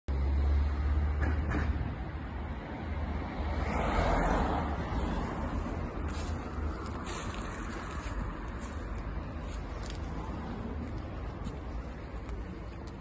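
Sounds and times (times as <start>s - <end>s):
car passing: 0.1s - 13.0s.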